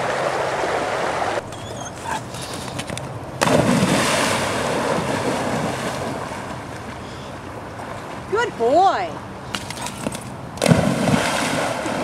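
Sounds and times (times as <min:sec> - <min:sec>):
churning rushing water: 0:00.0 - 0:02.6, 0:03.2 - 0:12.0.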